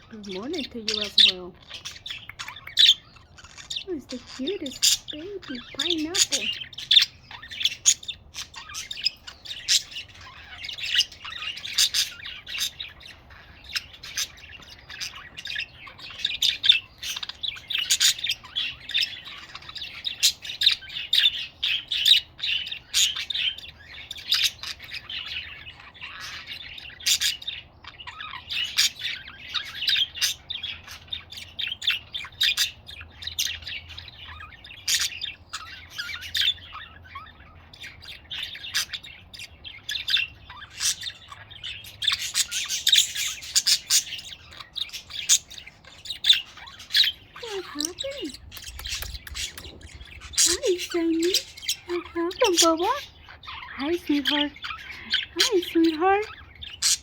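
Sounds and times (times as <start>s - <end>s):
budgies chirping: 0.0s - 57.0s.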